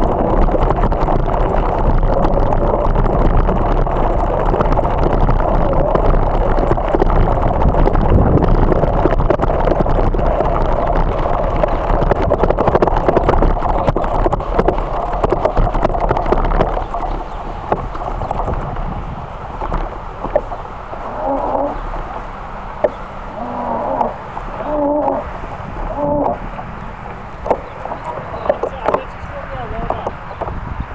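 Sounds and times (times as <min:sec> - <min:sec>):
tyres rumbling over gravel: 0:00.0 - 0:30.4
wind buffeting microphone: 0:00.0 - 0:30.9.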